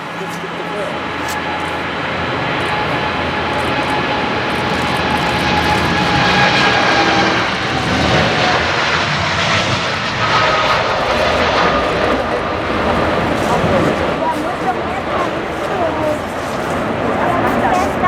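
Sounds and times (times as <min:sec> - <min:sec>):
jet engine roar: 0:00.0 - 0:18.0
jet engine whining tones: 0:00.0 - 0:18.0.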